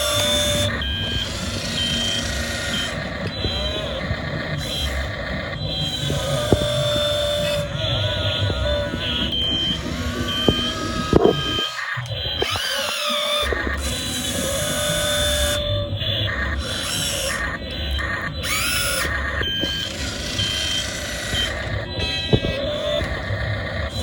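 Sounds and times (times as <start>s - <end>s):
hydraulic pump motor whining: 0.0s - 24.0s.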